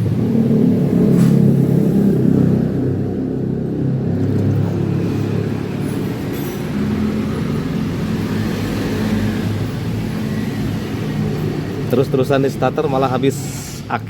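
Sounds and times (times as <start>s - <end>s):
vehicle engine humming: 0.0s - 13.8s.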